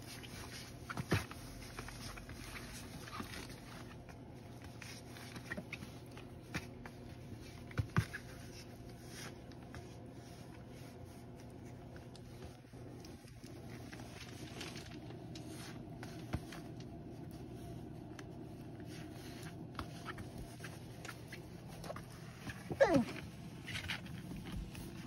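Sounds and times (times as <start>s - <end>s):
puppies wrestling on bedding: 0.0s - 25.0s.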